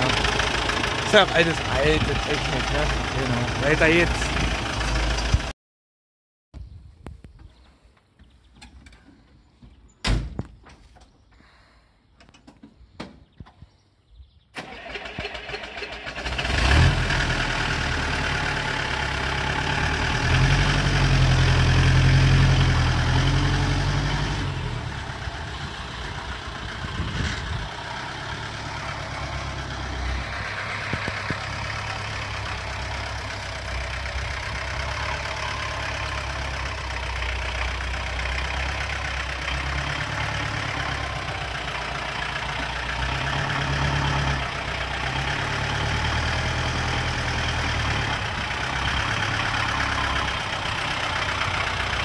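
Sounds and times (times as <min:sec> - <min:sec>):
diesel engine starting and running: 0:00.0 - 0:05.5, 0:14.5 - 0:52.0.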